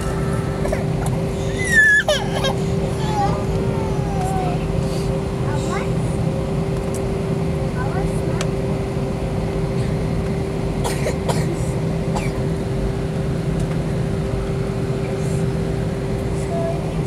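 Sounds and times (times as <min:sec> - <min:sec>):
airliner cabin engine noise: 0:00.0 - 0:17.0.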